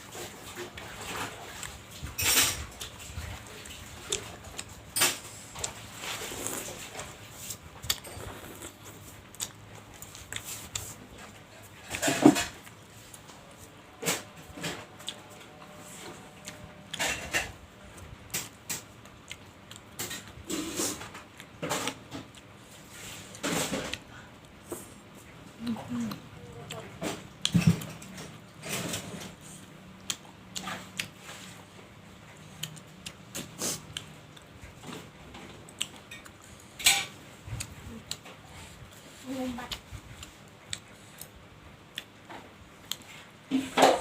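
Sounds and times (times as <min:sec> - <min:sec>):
wet chewing and slurping: 0:00.1 - 0:43.6.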